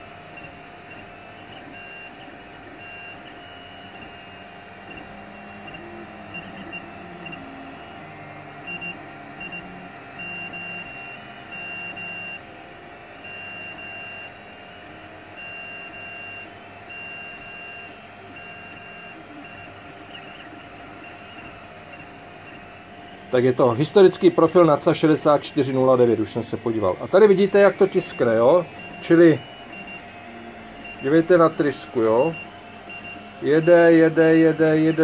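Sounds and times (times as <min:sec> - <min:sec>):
stepper motors whining: 0:00.1 - 0:35.0.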